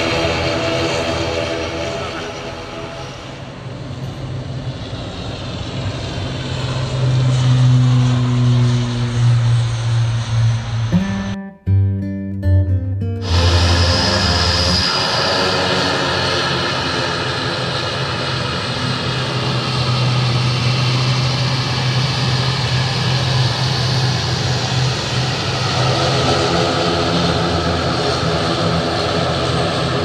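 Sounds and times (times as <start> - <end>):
high engine whine: 0.0 - 11.4, 13.2 - 30.0
propeller drone: 0.0 - 11.4, 13.2 - 30.0.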